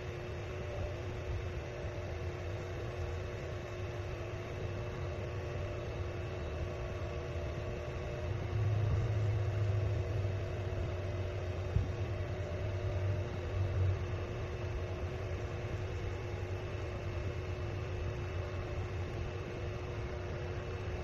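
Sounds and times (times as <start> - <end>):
faint steady tones: 0.0 - 21.0
low mechanical hum: 0.0 - 21.0.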